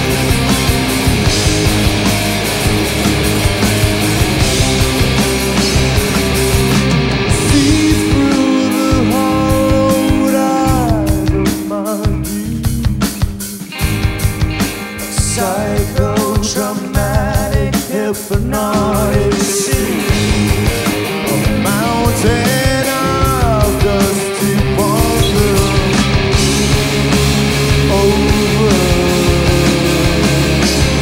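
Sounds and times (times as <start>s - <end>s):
gliding lead guitar melody: 0.0s - 17.4s, 19.6s - 31.0s
rock band playing live: 0.0s - 31.0s.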